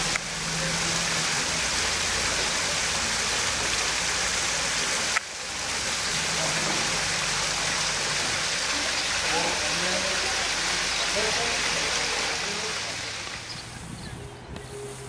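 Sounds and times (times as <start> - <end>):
fountain water splashing over stone: 0.0 - 13.8.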